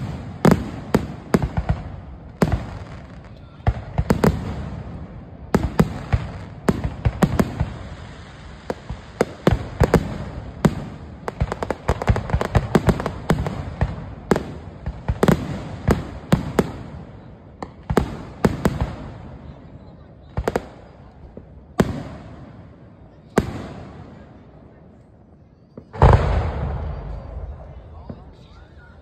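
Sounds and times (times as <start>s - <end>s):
fireworks bursting with sharp bangs: 0.0s - 29.0s.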